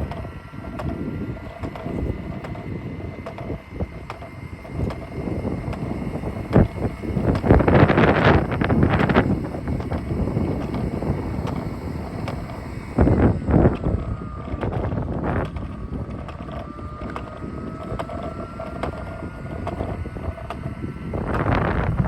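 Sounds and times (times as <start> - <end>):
faint rising whine: 0.0 - 22.0
wind buffeting microphone: 0.0 - 22.0.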